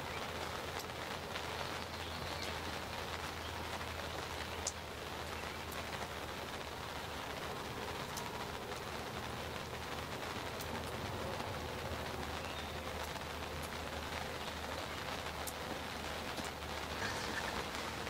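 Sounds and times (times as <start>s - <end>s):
rain hissing: 0.0s - 18.0s
raindrops ticking: 0.0s - 18.0s.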